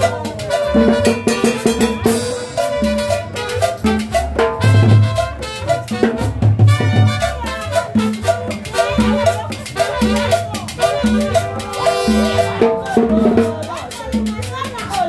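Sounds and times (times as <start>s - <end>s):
saxophone melody: 0.0s - 13.0s
conga drum: 0.0s - 15.0s
upright bass line: 0.0s - 15.0s.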